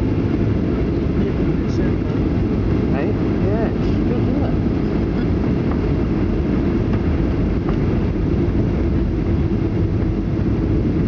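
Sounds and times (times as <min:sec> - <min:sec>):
jet engines rumbling in cabin: 0:00.0 - 0:11.0
rushing air: 0:00.0 - 0:11.0.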